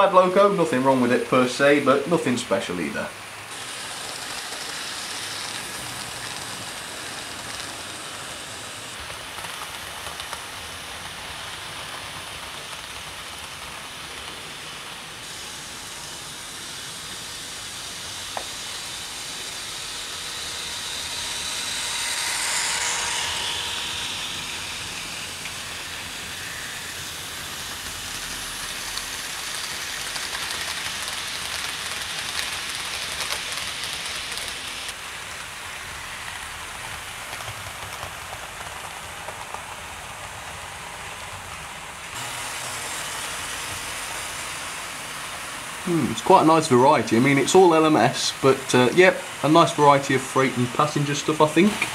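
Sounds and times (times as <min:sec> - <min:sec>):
model train wheels on track: 0:00.0 - 0:51.9.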